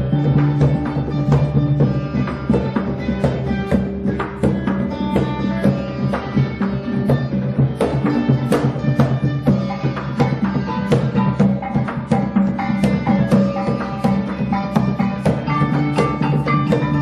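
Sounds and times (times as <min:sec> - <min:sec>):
gong ensemble music: 0:00.0 - 0:17.0.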